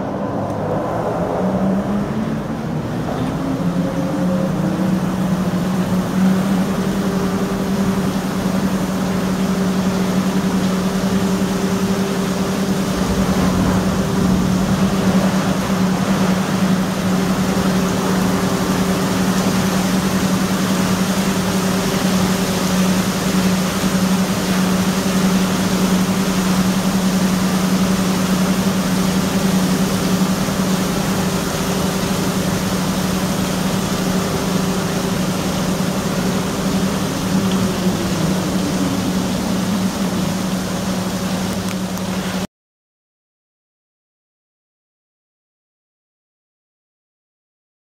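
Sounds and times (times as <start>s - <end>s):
low machine hum: 0.0s - 42.4s
water splashing and rushing: 0.0s - 42.5s.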